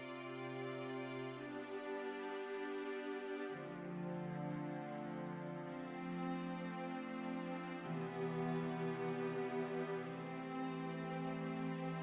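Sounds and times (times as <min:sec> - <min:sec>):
slow sad instrumental music: 0:00.0 - 0:12.0.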